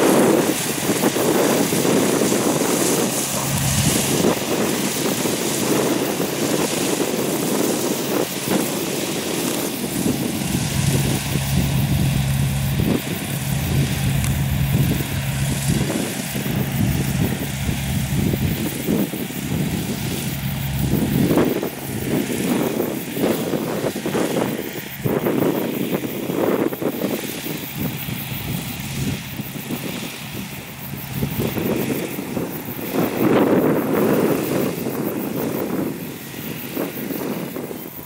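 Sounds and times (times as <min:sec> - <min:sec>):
combine harvester droning: 0:00.0 - 0:38.0.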